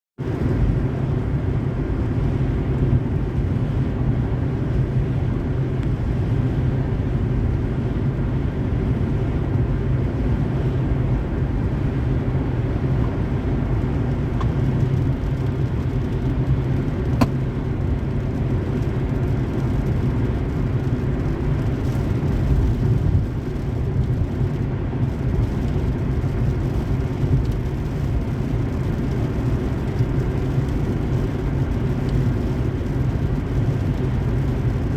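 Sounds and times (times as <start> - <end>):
tyres and engine rumbling: 0.2 - 34.9.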